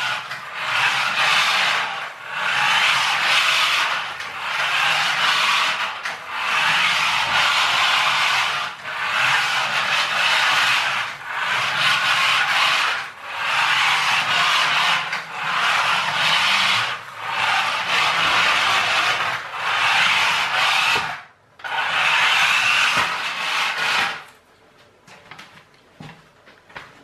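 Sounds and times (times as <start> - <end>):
toy electric motor whirring: 0.0 - 24.3
wheels rubbing on floor: 0.0 - 27.0.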